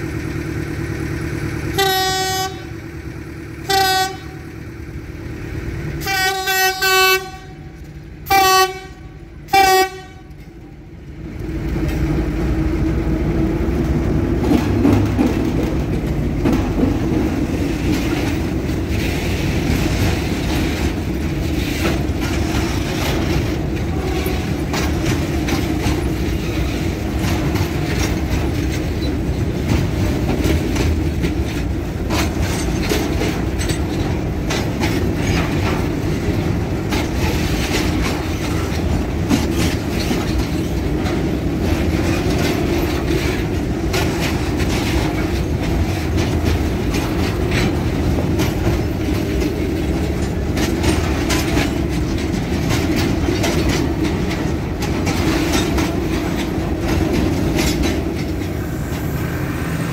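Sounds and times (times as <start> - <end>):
freight wheels rumbling on rail: 0.0 - 59.9
wheels clicking over rail joints: 0.1 - 59.9.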